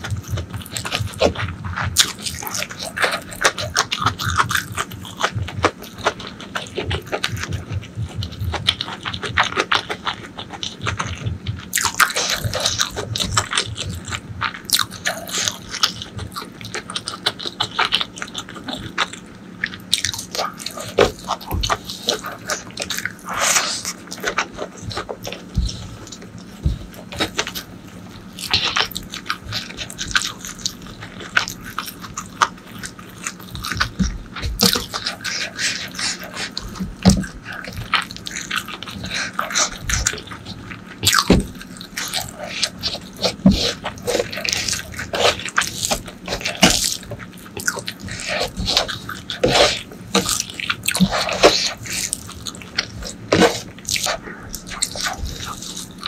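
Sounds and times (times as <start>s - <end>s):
wet chewing and mouth smacks: 0.0s - 56.0s.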